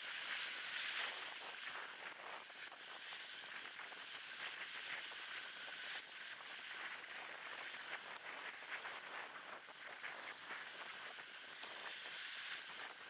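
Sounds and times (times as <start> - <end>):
wind noise: 0.0 - 13.0.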